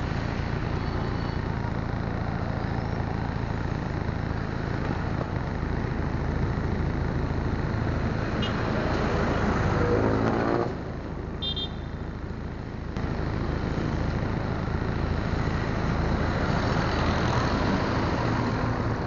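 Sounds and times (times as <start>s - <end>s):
vehicle engines passing: 0.0s - 19.0s.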